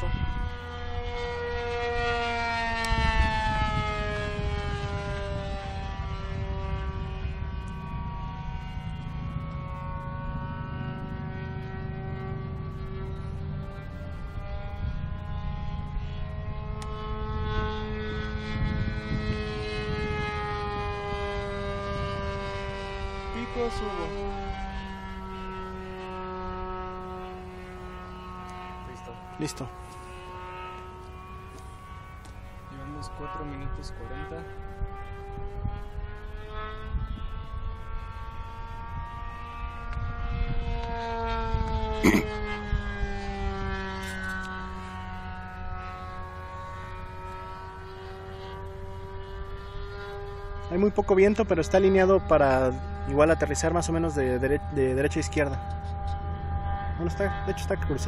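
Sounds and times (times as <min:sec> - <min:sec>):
low wind rumble: 0:00.0 - 0:58.0
model airplane engine at high revs: 0:00.0 - 0:58.0.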